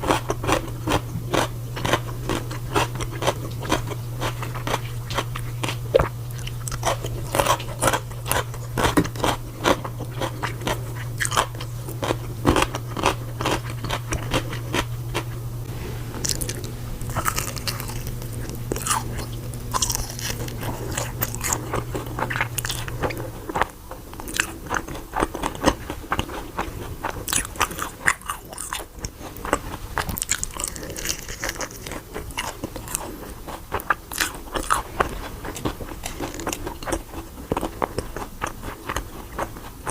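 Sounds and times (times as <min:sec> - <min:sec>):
low steady hum: 0:00.0 - 0:39.9
person chewing crunchy food: 0:00.0 - 0:39.9.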